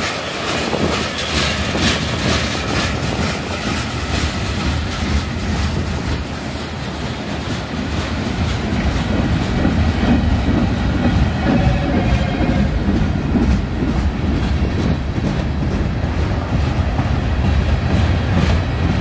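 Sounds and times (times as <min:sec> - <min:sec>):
train cars rumbling: 0:00.0 - 0:19.0
wheel clatter over rail joints: 0:00.0 - 0:19.0.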